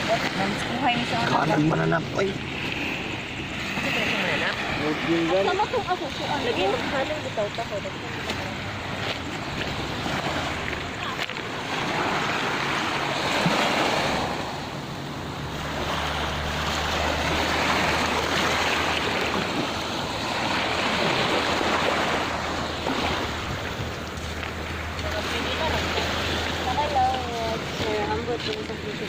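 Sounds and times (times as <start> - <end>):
low surf rumble: 0.0 - 29.0
waves breaking on a beach: 0.0 - 29.0.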